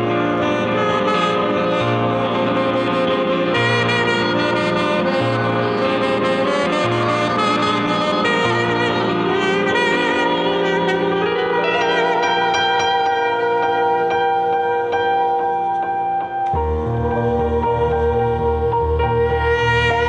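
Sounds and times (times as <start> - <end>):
keyboard: 0.0 - 20.0
tenor saxophone sustained tones: 0.0 - 20.0.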